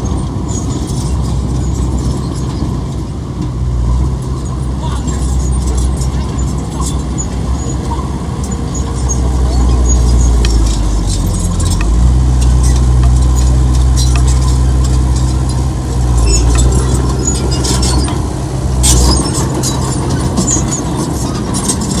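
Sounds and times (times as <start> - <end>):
heavy diesel engine running: 0.0 - 22.0
metal clanks and rattles: 0.1 - 22.0.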